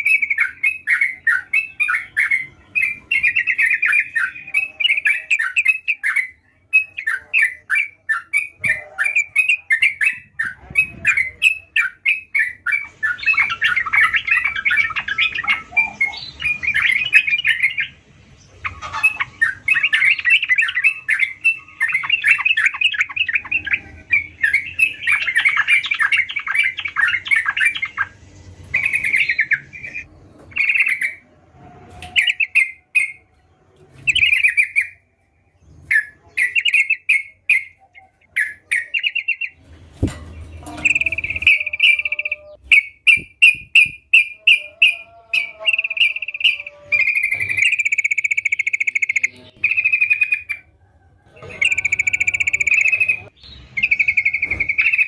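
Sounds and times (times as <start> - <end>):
bird singing chattering phrases: 0.0 - 31.2, 35.7 - 50.7, 51.4 - 55.0.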